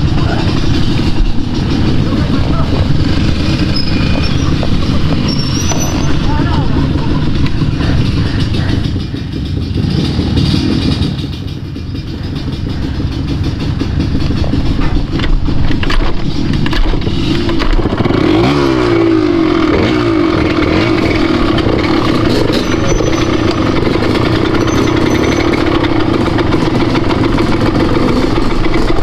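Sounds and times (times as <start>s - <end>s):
loud low rumble: 0.0s - 29.0s
vehicle engine running: 0.0s - 29.0s.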